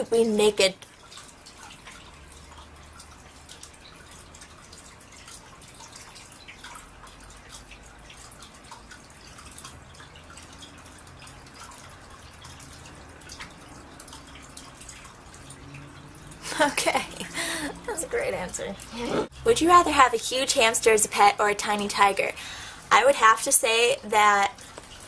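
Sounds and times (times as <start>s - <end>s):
water dripping and trickling: 0.0s - 25.0s.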